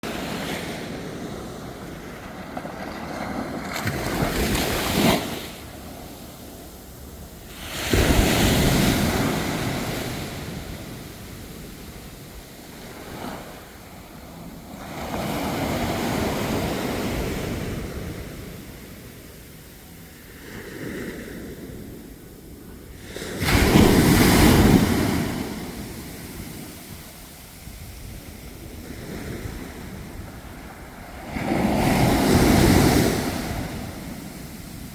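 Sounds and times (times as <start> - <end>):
sea waves breaking on shore: 0.0 - 22.1, 22.7 - 34.9.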